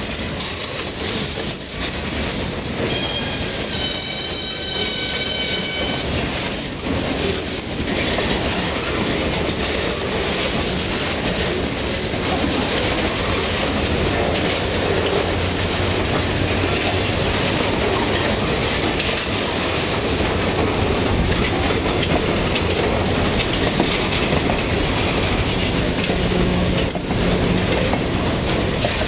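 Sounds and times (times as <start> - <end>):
train wheels running on rail: 0.0 - 29.0.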